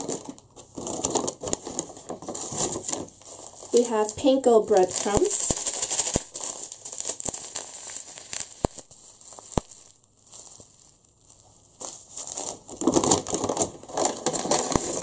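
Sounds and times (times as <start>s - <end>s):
plastic packets crinkling: 0.0s - 15.0s.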